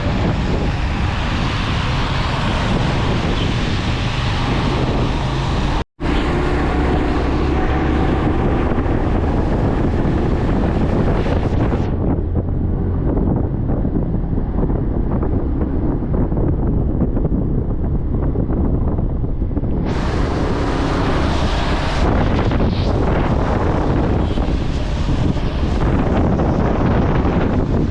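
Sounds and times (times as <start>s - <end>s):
road noise: 0.0s - 27.9s
wind buffeting microphone: 0.0s - 27.9s.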